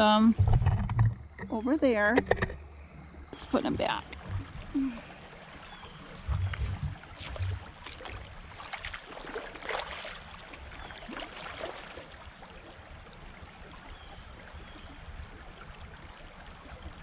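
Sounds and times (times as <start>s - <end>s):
creek water over pebbles: 0.0s - 17.0s
splashes of wading: 3.3s - 17.0s.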